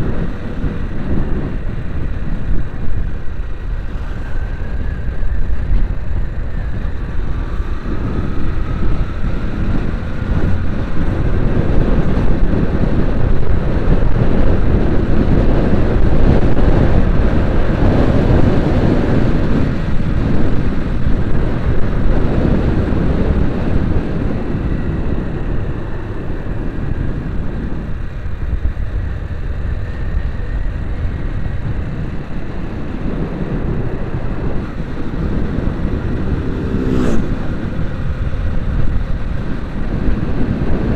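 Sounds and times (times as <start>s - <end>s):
engine and road noise rumble: 0.0s - 40.9s
wind buffeting: 0.0s - 40.9s.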